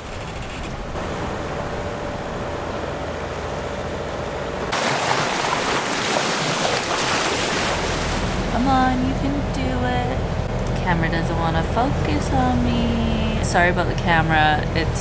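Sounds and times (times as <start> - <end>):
low engine drone: 0.0 - 4.8, 7.6 - 15.0
sea rushing along boat hull: 0.0 - 15.0
wind: 0.0 - 15.0.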